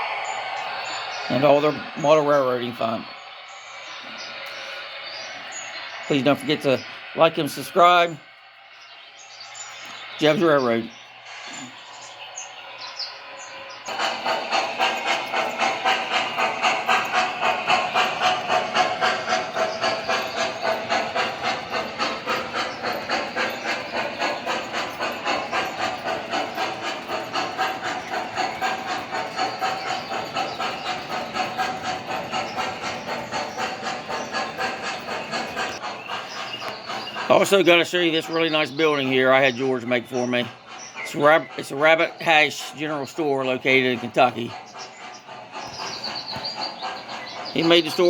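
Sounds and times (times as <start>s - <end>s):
model steam locomotive chuffing: 0.0s - 48.0s.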